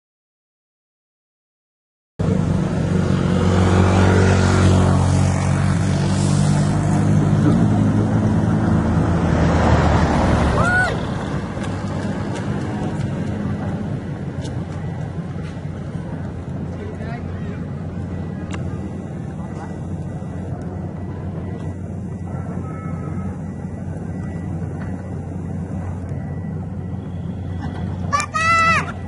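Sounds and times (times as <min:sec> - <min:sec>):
excavator diesel engine running: 0:02.2 - 0:29.0.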